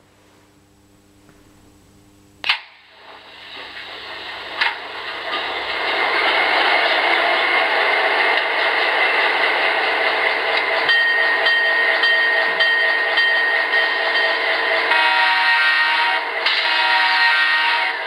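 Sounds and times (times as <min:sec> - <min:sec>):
steady high whine: 0:00.0 - 0:17.2.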